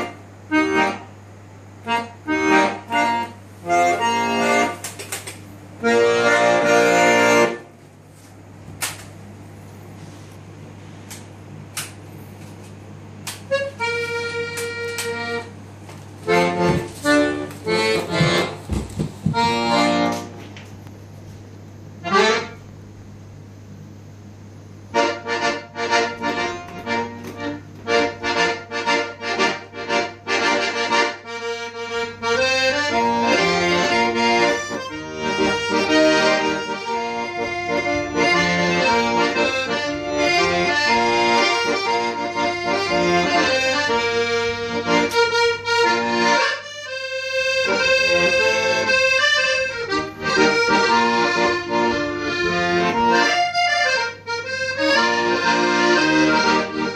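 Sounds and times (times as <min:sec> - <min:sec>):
piano accordion playing: 0:00.0 - 0:05.0, 0:05.6 - 0:07.8, 0:13.2 - 0:20.6, 0:22.0 - 0:22.8, 0:24.8 - 0:56.9.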